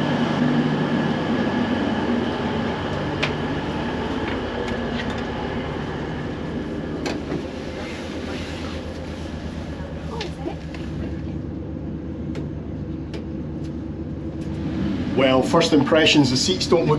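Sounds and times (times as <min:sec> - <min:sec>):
diesel train engines humming: 0:00.0 - 0:16.9.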